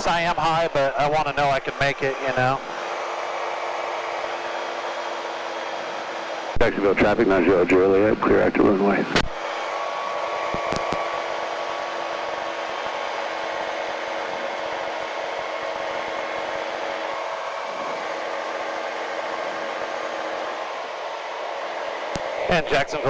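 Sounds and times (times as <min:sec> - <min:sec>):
light airplane engine drone: 0:00.0 - 0:23.0.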